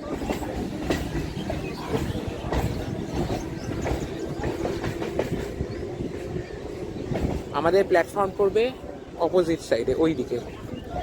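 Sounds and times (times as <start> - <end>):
wheels clicking over rail joints: 0.0 - 8.9
train wheels rumbling on rail: 0.0 - 11.0.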